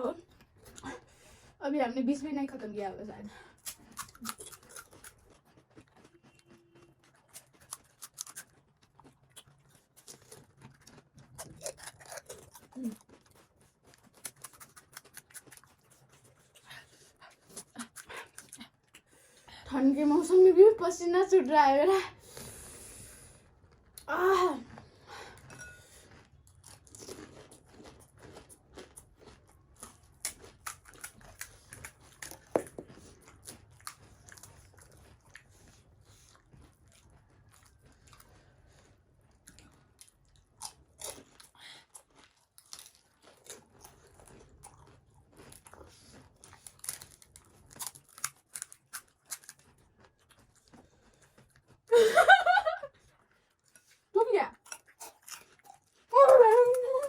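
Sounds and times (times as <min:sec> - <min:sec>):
wet chewing: 0:00.2 - 0:01.6, 0:03.3 - 0:20.4, 0:22.2 - 0:57.0
crunching crisp fried shells: 0:03.4 - 0:19.1, 0:23.4 - 0:57.0.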